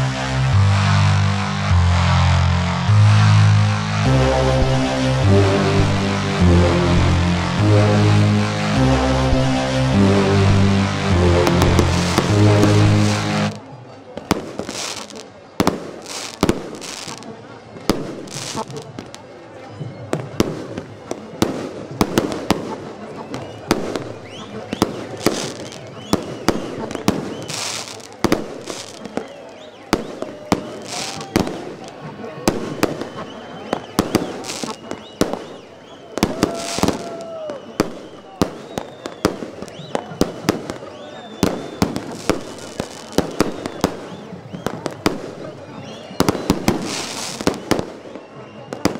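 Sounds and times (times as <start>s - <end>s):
fireworks bangs: 0.0s - 19.3s, 20.2s - 48.9s.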